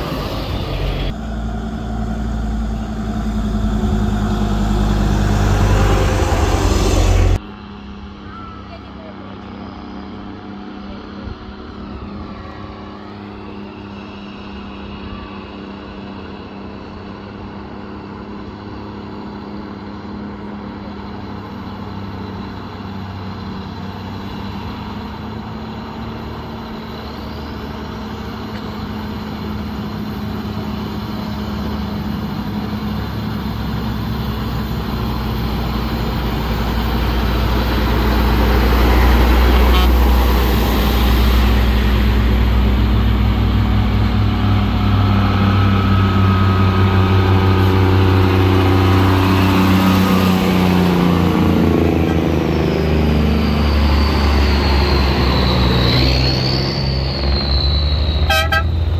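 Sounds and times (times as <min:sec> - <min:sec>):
old vehicle engines running: 0:00.0 - 0:58.9.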